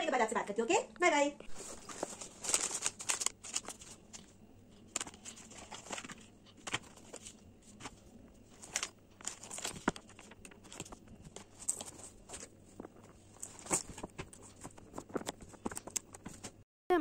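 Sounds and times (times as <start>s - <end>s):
plastic packaging crinkling: 1.5s - 16.6s.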